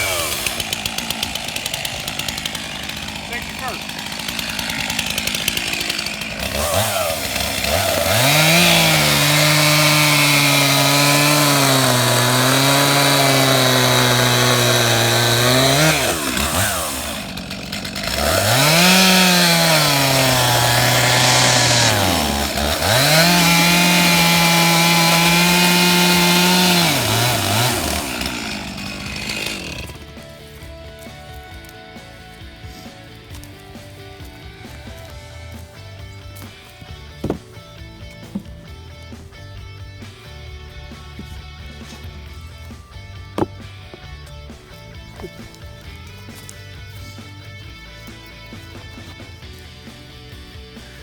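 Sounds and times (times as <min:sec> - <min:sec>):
chainsaw cutting wood: 0:00.0 - 0:51.0
chainsaw revving: 0:00.0 - 0:51.0.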